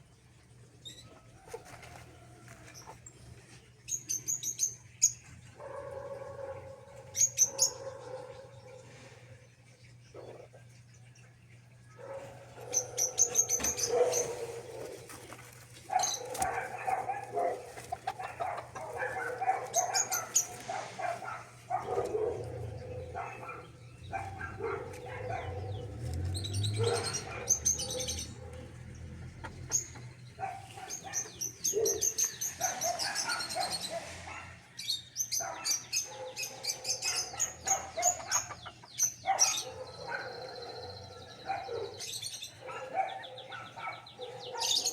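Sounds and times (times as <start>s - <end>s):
small birds chirping: 2.7s - 44.9s.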